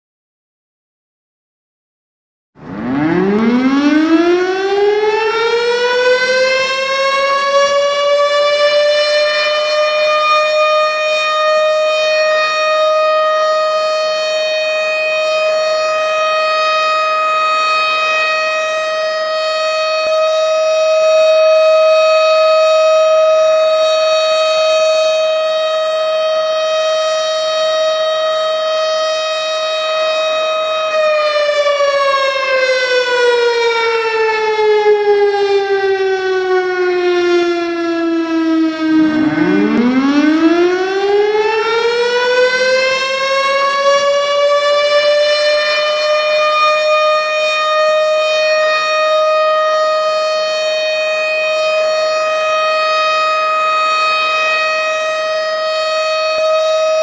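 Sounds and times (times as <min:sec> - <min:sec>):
siren winding up to steady tone: 0:02.6 - 0:57.0.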